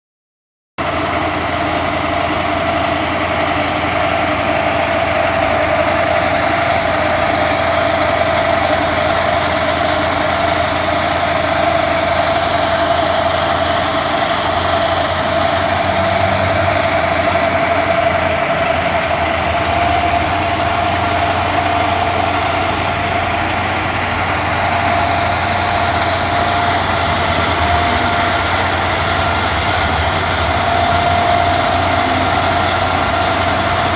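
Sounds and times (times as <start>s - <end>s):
engine whining and humming: 0.8s - 33.9s.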